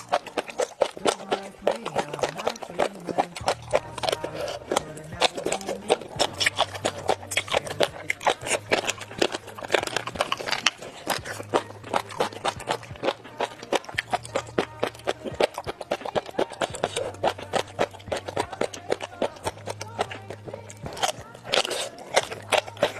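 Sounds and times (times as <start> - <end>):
crunchy chewing and biting: 0.0 - 22.9.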